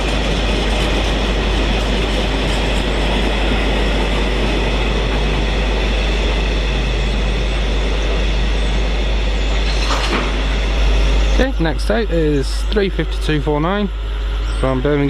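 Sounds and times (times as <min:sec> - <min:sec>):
train wheels on rail: 0:00.0 - 0:15.0.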